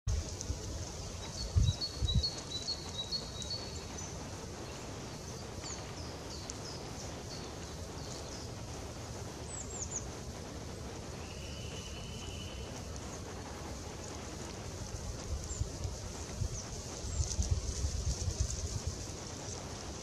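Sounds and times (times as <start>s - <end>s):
steady low rumble: 0.1s - 20.0s.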